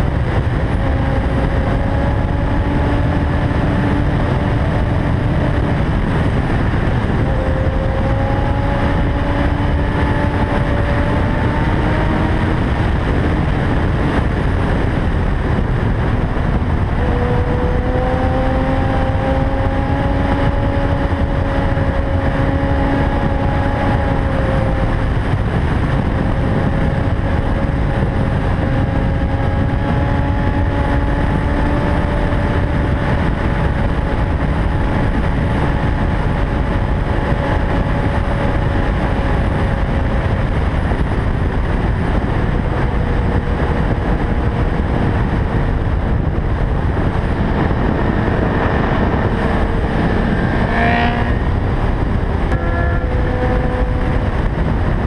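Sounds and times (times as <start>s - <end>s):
heavy wind rush: 0.0s - 55.0s
motorcycle engine running: 0.0s - 55.0s.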